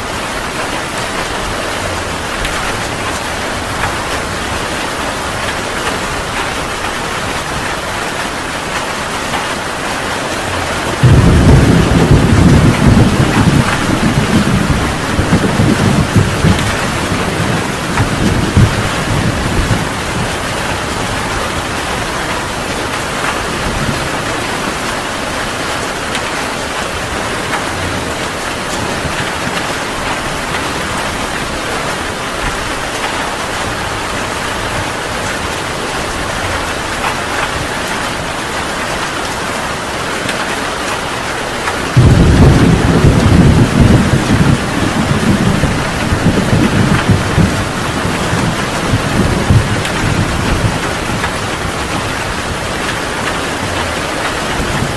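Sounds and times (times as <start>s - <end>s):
heavy rain falling: 0.0s - 54.9s
thunder rumbling: 0.1s - 54.9s.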